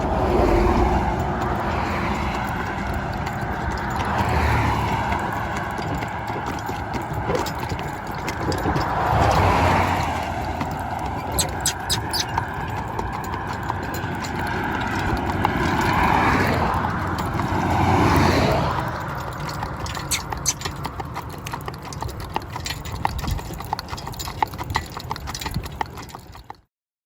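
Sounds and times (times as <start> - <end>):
horse hooves clip-clopping: 0.0 - 26.7.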